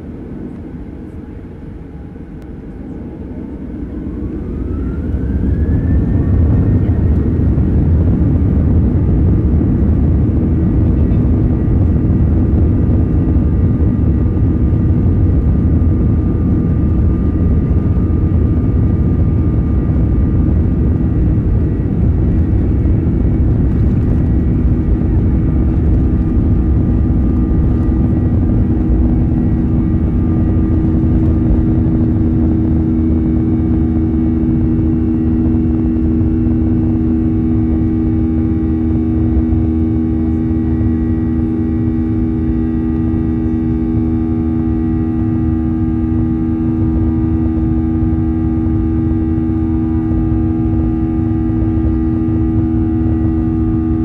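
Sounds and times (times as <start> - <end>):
engine whine: 0.0 - 54.0
jet engine rumble and rushing air: 0.0 - 54.0.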